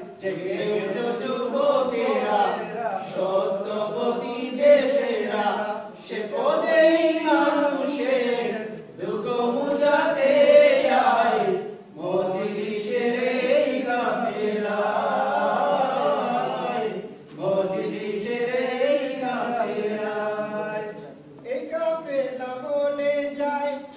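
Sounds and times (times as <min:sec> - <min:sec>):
men singing together through a microphone: 0:00.0 - 0:21.2.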